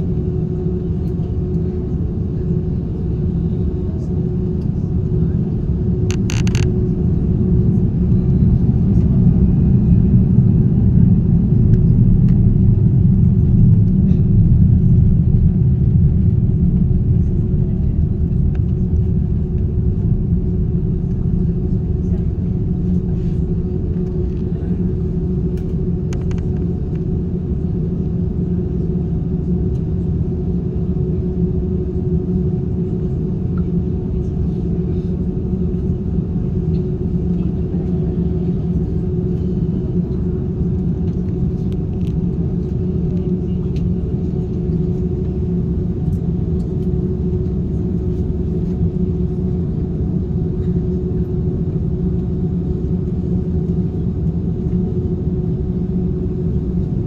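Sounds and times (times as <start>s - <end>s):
jet airliner idling from cabin: 0.0s - 57.0s.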